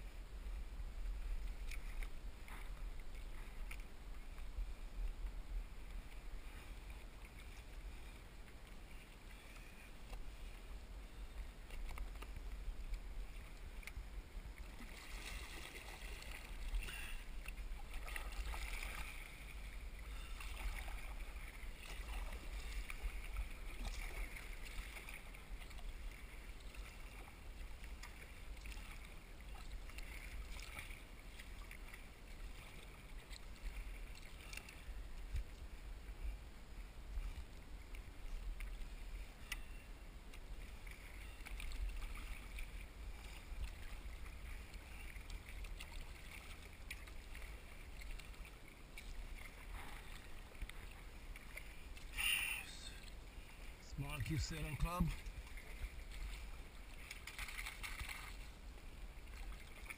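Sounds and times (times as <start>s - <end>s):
water splashing against kayak: 0.0s - 59.9s.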